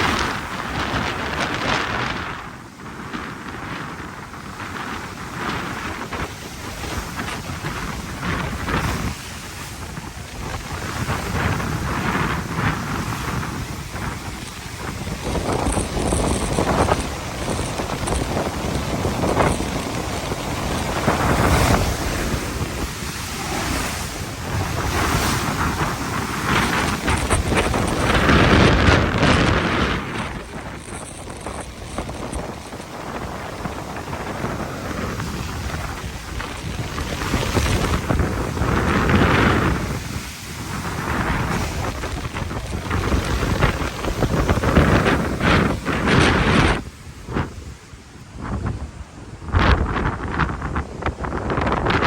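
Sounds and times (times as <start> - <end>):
roar of surf: 0.0 - 52.0
wind buffeting microphone: 0.0 - 52.0.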